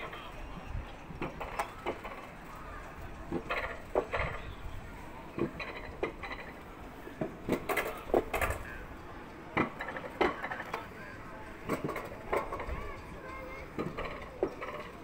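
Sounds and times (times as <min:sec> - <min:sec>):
coaster car rumbling on rails: 0:00.0 - 0:15.0.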